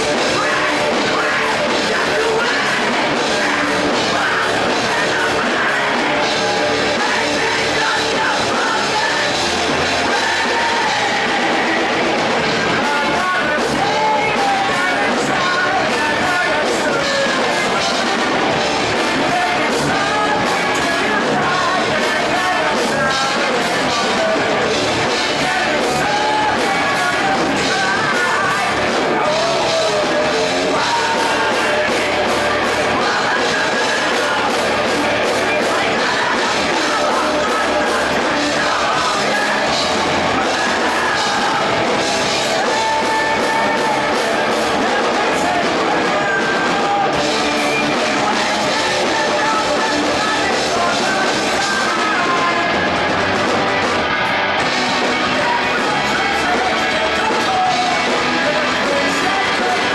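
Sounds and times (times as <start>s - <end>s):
live rock band playing: 0.0s - 59.9s
person singing and shouting: 0.0s - 59.9s
pounding drums: 0.0s - 59.9s.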